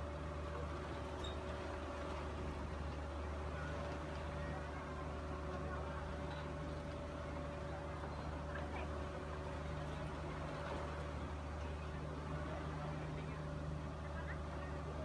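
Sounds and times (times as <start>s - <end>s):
ferry engine humming: 0.0s - 15.0s
wind and waves: 0.0s - 15.0s.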